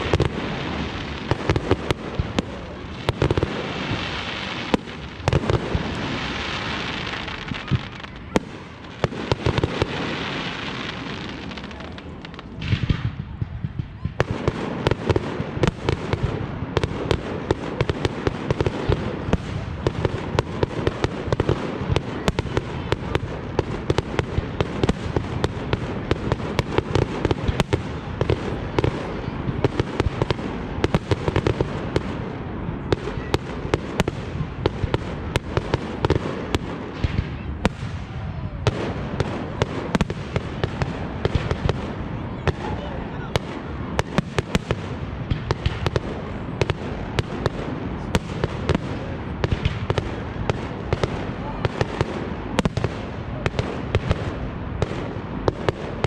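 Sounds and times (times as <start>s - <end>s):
fireworks cracks and bangs: 0.0s - 56.0s.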